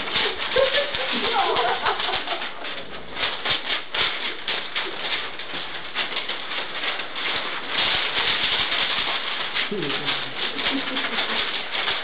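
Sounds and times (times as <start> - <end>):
feet shuffling: 0.0 - 12.0
paper rustling: 0.0 - 12.0.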